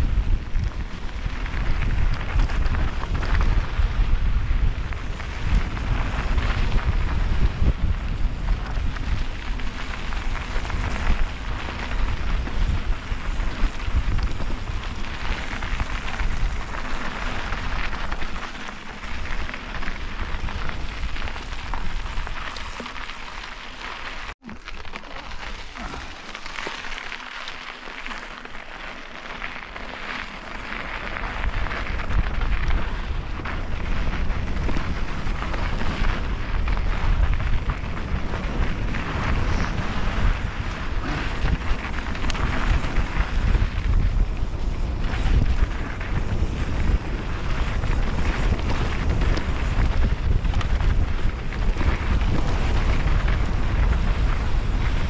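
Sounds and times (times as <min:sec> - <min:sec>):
wind buffeting microphone: 0:00.0 - 0:22.8, 0:31.0 - 0:55.0
bike rattling: 0:00.0 - 0:55.0
tyres crunching on gravel: 0:00.0 - 0:55.0.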